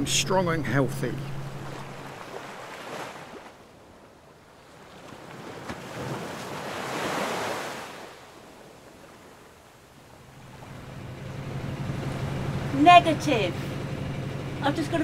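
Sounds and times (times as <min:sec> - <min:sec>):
sea water washing: 0:00.7 - 0:14.6.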